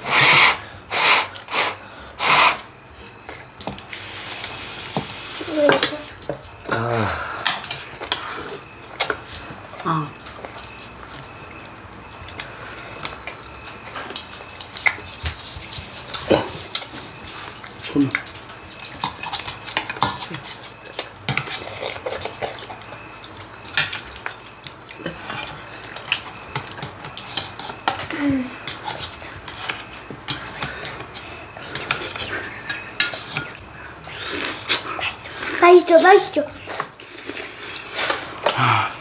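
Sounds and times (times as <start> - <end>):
utensils clinking against bowls: 5.0 - 11.4, 12.2 - 38.6.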